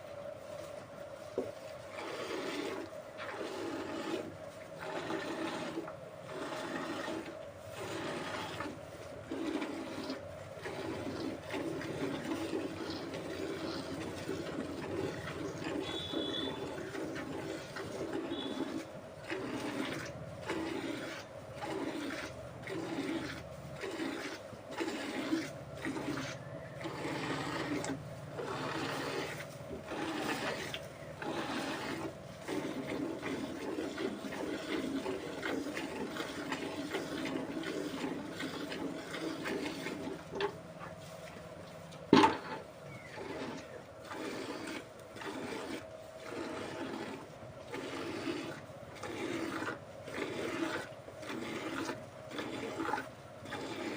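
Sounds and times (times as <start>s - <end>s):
milk squirting into a pail: 1.4s - 41.4s, 42.0s - 53.9s.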